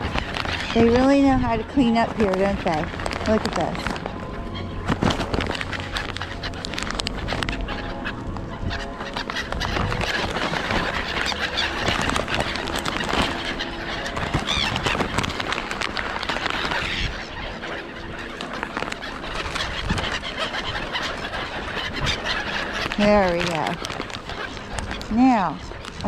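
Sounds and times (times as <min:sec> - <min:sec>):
gulls calling and squealing: 0:00.0 - 0:26.0
high bird calls: 0:00.0 - 0:26.0.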